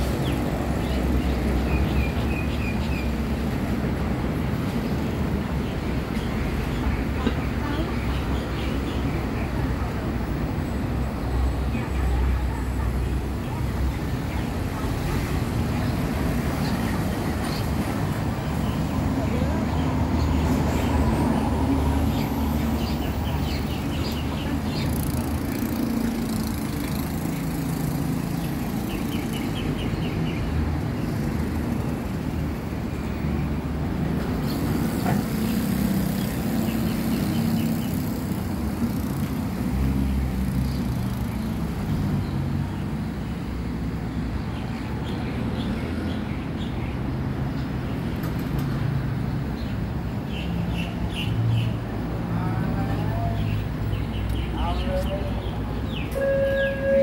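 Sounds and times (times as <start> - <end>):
cars and motorcycles passing: 0.0 - 57.0.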